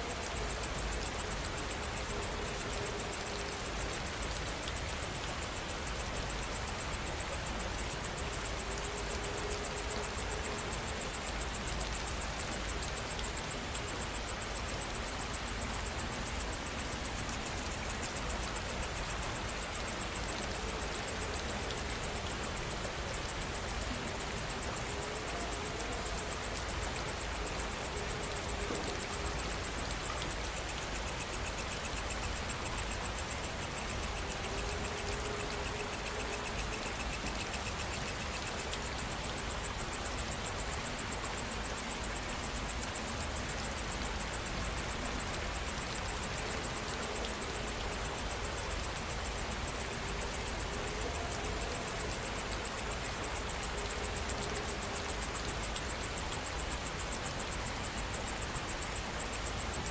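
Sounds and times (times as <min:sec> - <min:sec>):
insect chirping: 0:00.0 - 0:59.9
steady rain falling: 0:00.0 - 0:59.9.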